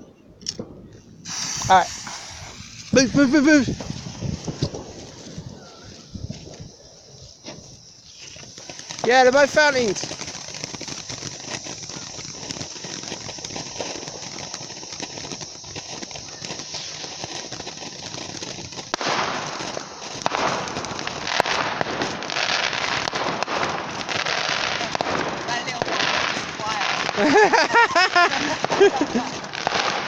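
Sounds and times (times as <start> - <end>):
fireworks crackling with pops: 0.0 - 30.0
firework fountain hissing: 0.4 - 30.0.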